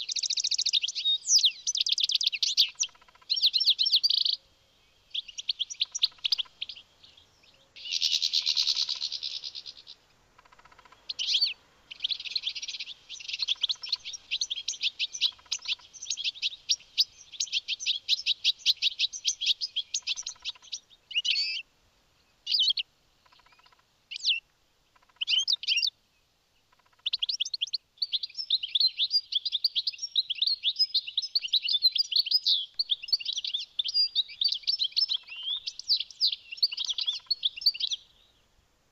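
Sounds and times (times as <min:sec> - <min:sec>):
goldfinch twittering song: 0:00.0 - 0:21.6, 0:22.4 - 0:24.4, 0:25.0 - 0:25.9, 0:26.8 - 0:38.4.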